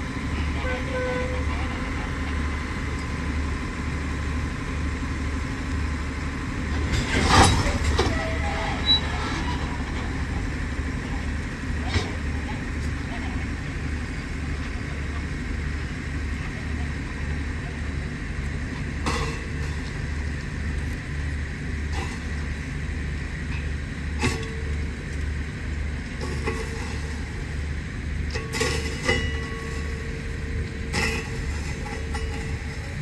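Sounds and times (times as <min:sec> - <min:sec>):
metallic clanks of railway cars: 0:00.0 - 0:33.0
train diesel engine throbbing: 0:00.0 - 0:33.0.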